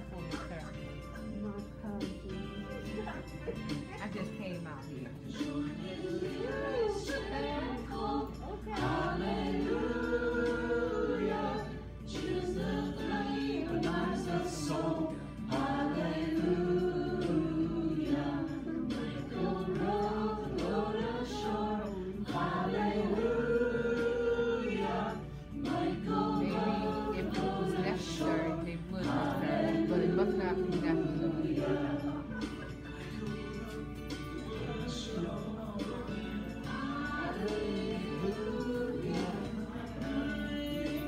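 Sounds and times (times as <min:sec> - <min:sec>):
group singing a hymn: 0:05.2 - 0:41.0.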